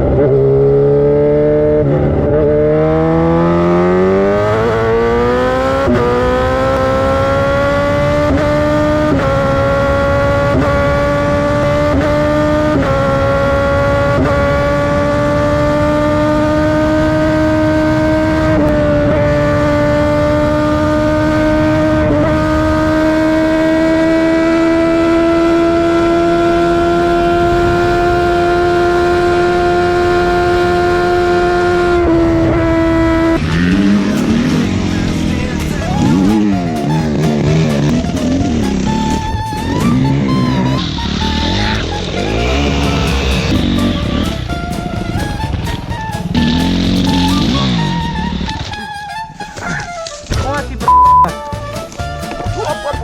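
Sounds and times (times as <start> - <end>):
motorcycle engine at high revs: 0.0 - 48.8.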